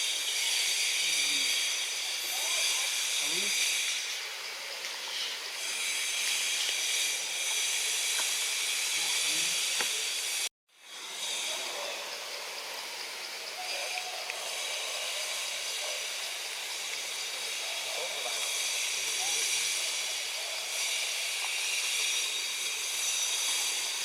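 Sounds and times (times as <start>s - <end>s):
high-pitched outdoor hiss: 0.0s - 24.0s.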